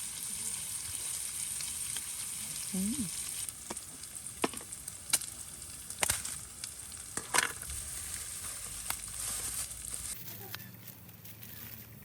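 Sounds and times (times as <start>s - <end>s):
food sizzling in a pan: 0.0s - 10.5s.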